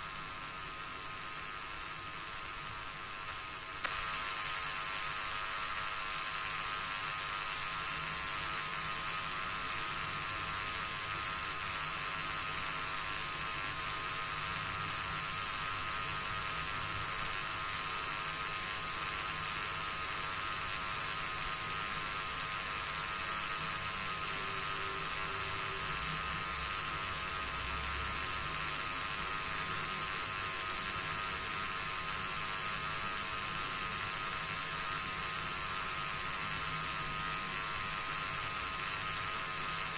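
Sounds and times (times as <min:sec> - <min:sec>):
whirring hum: 0:00.0 - 0:39.9.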